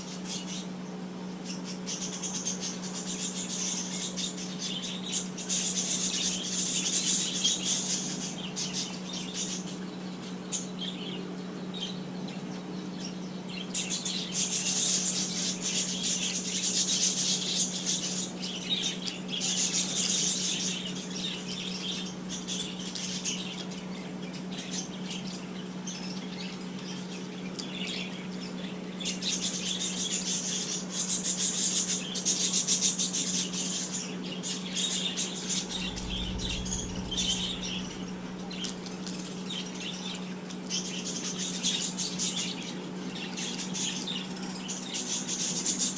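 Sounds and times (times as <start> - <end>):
small birds chirping: 0.0 - 45.9
steady low hum: 0.0 - 45.9.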